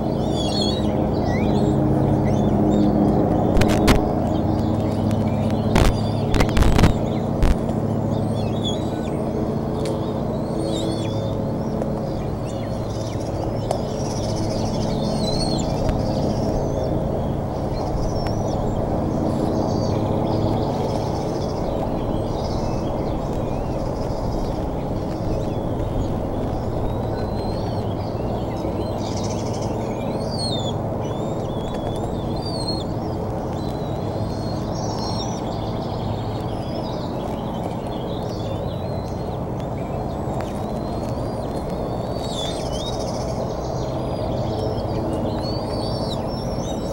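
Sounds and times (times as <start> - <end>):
songbirds chirping and singing: 0.0 - 46.9
steady low rumble: 0.0 - 46.9.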